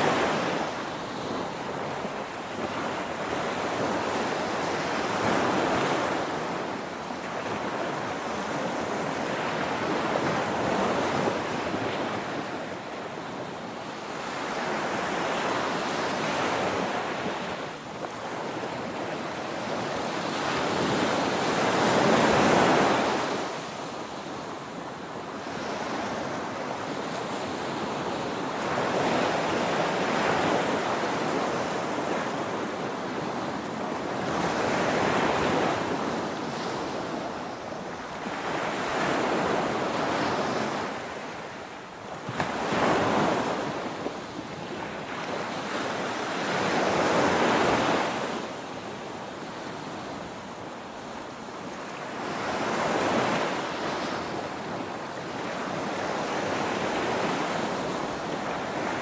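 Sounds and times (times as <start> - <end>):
small waves breaking on sand: 0.0 - 59.0.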